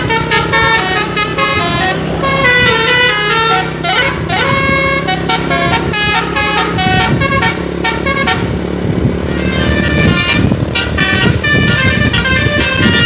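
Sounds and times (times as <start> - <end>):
musical air horn tune: 0.0 - 8.6, 9.2 - 13.0
bus engine running: 0.0 - 13.0.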